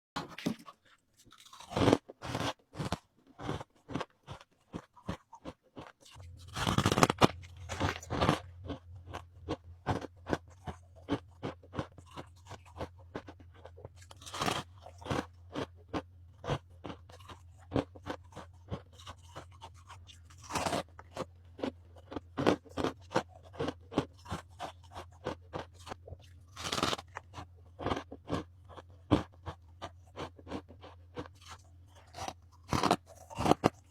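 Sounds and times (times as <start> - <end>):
ice crunched between teeth: 1.3 - 33.9.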